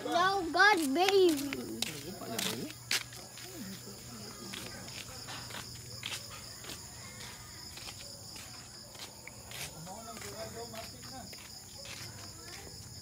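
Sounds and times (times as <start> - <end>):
night insects chirring: 0.0 - 13.0
soft footsteps: 0.2 - 13.0.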